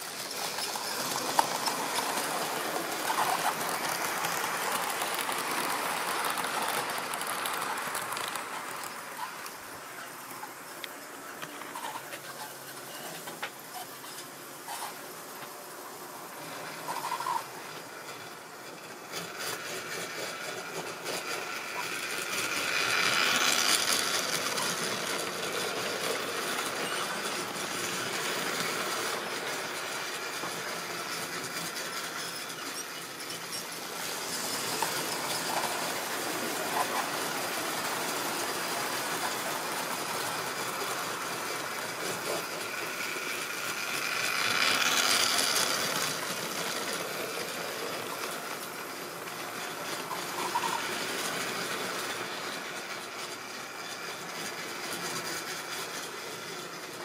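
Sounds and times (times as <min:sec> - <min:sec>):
model trains rattling on track: 0:00.0 - 0:57.0.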